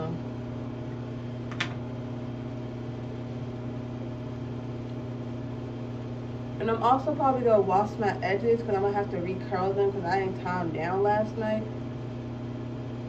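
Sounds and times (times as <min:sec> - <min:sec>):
exhaust fan humming: 0:00.0 - 0:13.0.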